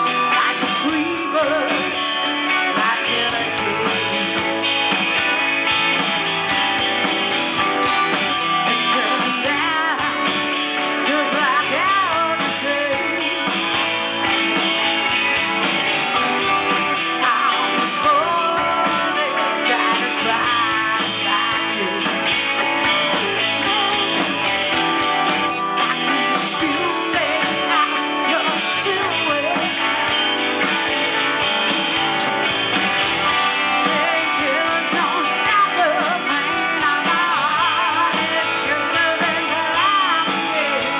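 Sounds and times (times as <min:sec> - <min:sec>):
woman singing: 0:00.0 - 0:05.5, 0:07.6 - 0:14.5, 0:16.1 - 0:31.2, 0:33.3 - 0:40.9
blues-rock band playing: 0:00.0 - 0:40.9.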